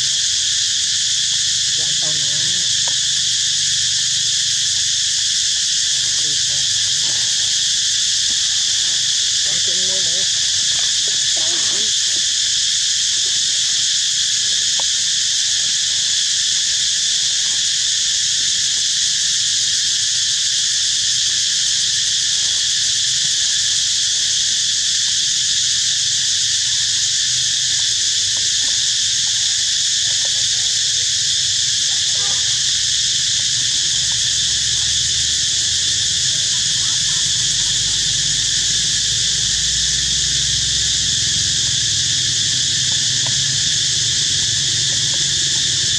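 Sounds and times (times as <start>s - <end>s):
insect chorus buzzing: 0.0s - 45.9s.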